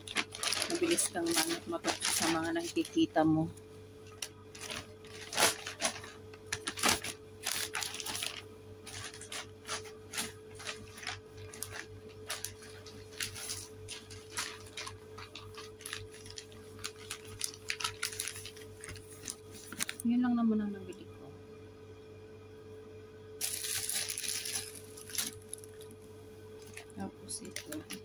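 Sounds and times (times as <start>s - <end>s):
plastic bag rustling: 0.0s - 20.1s, 23.4s - 26.0s, 26.6s - 28.0s.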